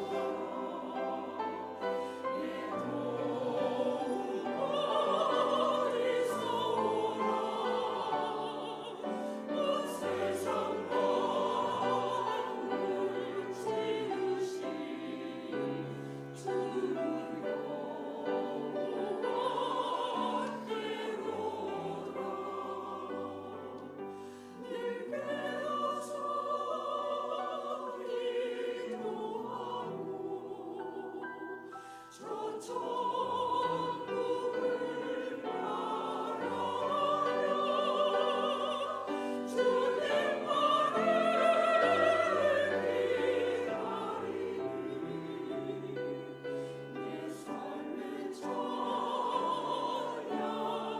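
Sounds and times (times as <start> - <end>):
church choir singing: 0.0 - 50.9.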